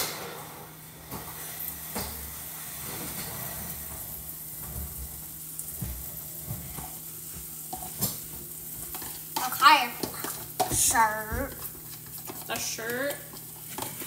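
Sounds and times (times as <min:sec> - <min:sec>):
batter sizzling on griddle: 0:00.0 - 0:14.0.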